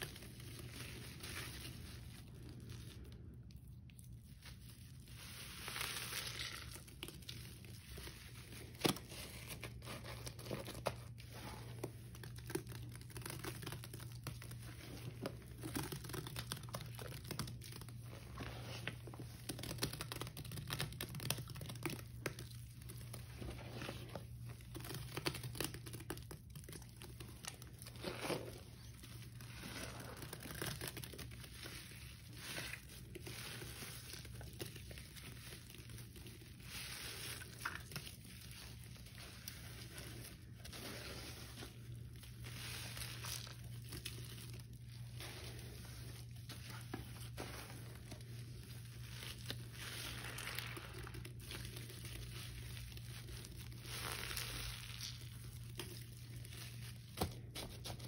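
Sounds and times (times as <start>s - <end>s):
sponge squelching in wet paste: 0.0s - 58.0s.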